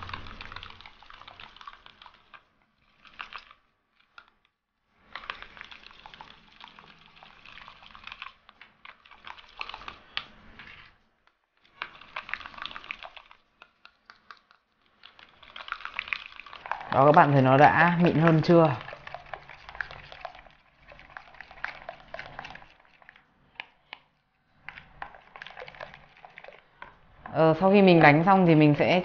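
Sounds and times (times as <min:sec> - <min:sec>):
wet slapping of batter: 0:00.0 - 0:28.6.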